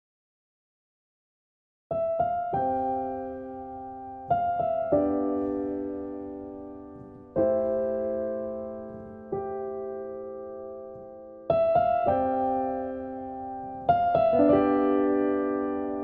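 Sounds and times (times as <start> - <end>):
slow gentle piano music: 1.9 - 16.0.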